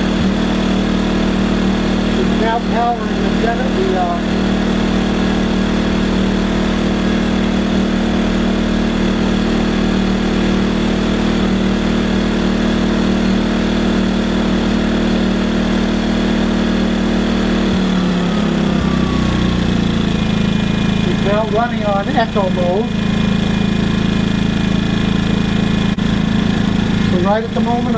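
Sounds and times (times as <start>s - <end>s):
generator running: 0.0s - 27.9s.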